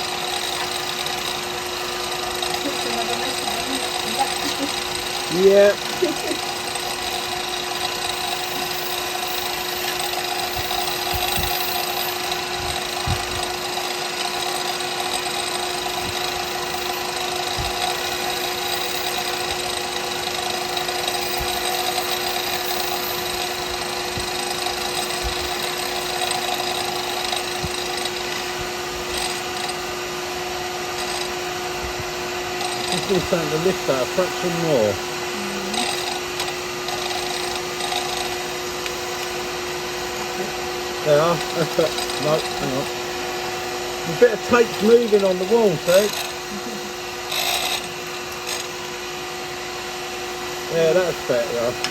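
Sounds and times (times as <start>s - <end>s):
wood lathe humming: 0.0s - 51.9s.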